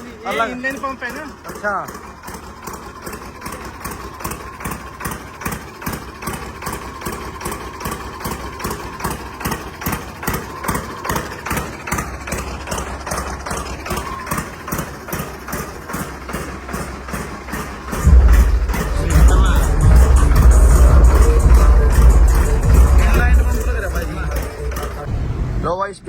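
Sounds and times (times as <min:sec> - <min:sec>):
tractor diesel engine idling: 0:00.0 - 0:25.8.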